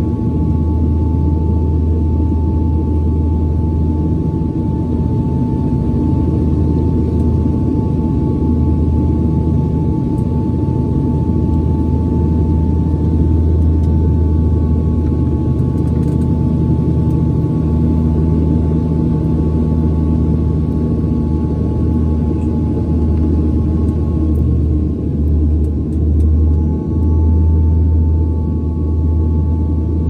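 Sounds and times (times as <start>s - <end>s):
engine and airflow rumble: 0.0s - 30.0s.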